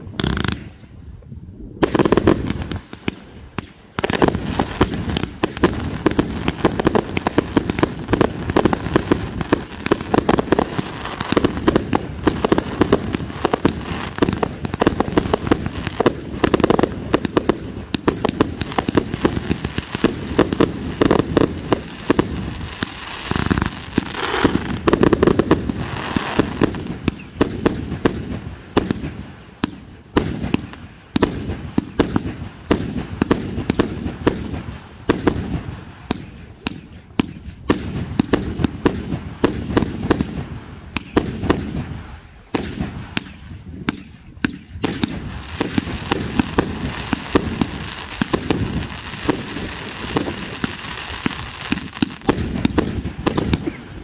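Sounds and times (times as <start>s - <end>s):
fireworks bangs and crackling: 0.0s - 0.9s, 1.7s - 54.0s.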